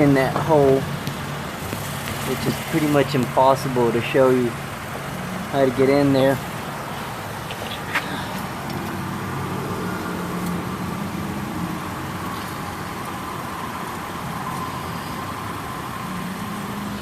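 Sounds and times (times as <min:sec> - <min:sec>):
motor vehicle humming: 0:00.0 - 0:17.0.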